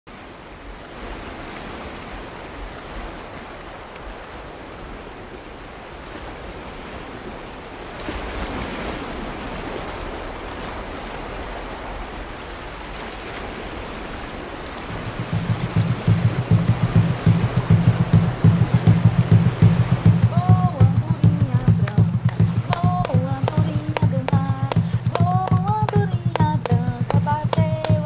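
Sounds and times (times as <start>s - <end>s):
ocean surf washing on beach: 0.1s - 28.0s.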